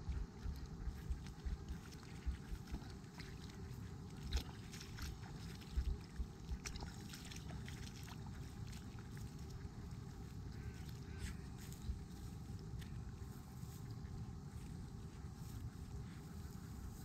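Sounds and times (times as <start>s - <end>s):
dog splashing through water: 0.0s - 14.2s.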